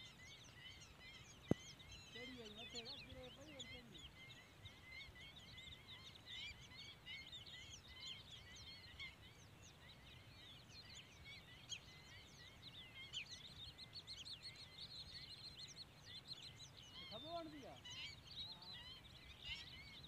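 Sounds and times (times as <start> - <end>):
birds chirping in chorus: 0.0 - 20.0.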